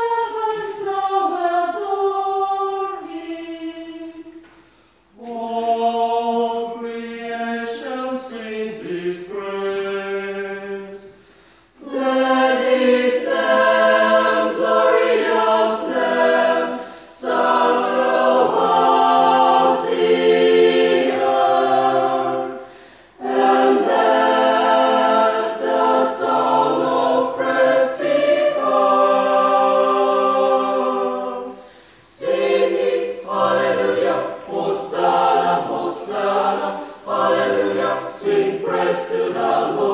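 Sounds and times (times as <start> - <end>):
choir singing unaccompanied: 0.0 - 4.4, 5.1 - 39.9.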